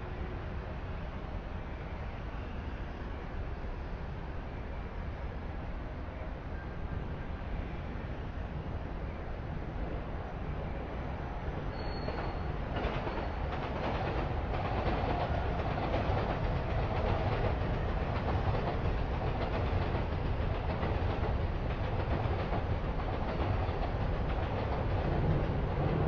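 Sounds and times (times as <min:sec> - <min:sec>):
rumbling street noise: 0:00.0 - 0:26.0
train running over tracks: 0:00.0 - 0:26.0.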